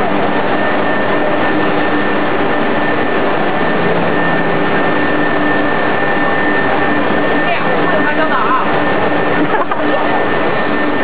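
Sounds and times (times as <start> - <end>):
machine running with high whine: 0.0 - 11.0.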